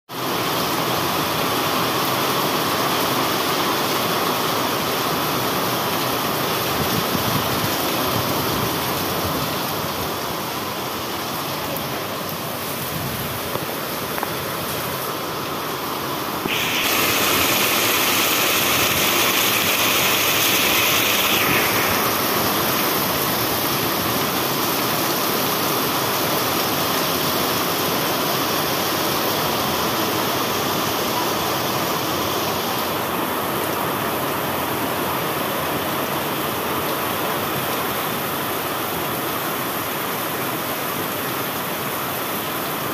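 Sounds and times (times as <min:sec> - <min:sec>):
heavy rain splashing on concrete: 0:00.1 - 0:42.9.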